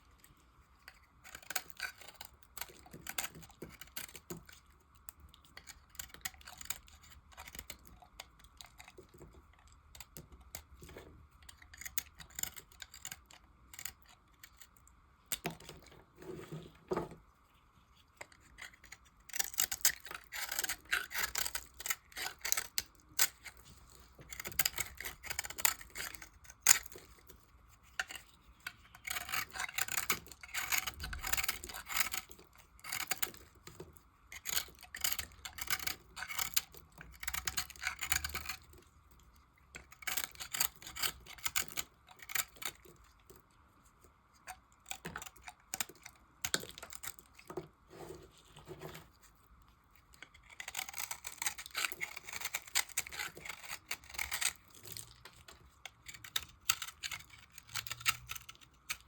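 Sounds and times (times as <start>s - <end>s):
knife cutting dry soap: 0.8s - 17.2s, 18.1s - 39.2s, 39.8s - 43.4s, 44.4s - 59.0s.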